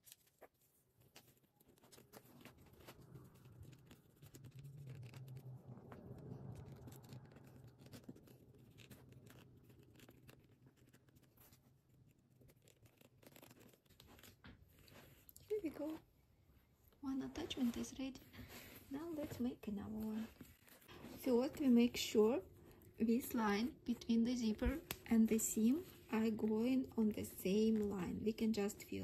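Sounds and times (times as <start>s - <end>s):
leather scratching and rubbing: 0.0s - 16.1s, 17.4s - 29.0s.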